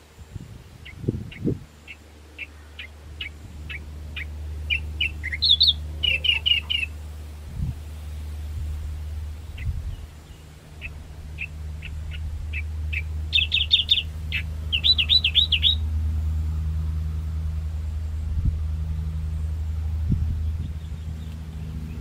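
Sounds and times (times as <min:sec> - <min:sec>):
small bird singing: 0:00.0 - 0:07.7, 0:08.9 - 0:16.0, 0:17.9 - 0:22.0
light aircraft engine droning: 0:00.0 - 0:22.0.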